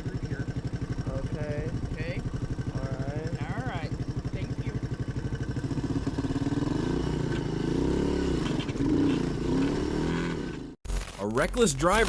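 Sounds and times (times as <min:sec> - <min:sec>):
motorcycle engine accelerating: 0:00.0 - 0:10.8.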